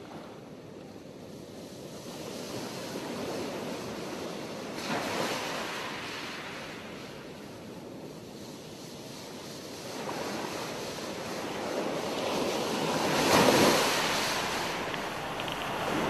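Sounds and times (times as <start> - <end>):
surf breaking on a beach: 0.0 - 16.0.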